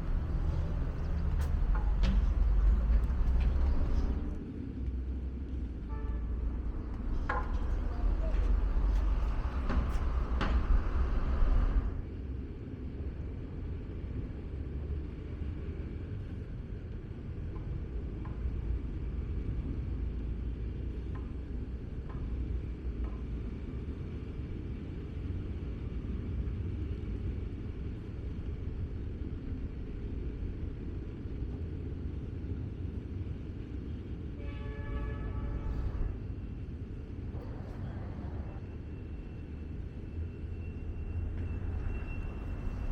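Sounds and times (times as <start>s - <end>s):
low outdoor rumble: 0.0s - 42.9s.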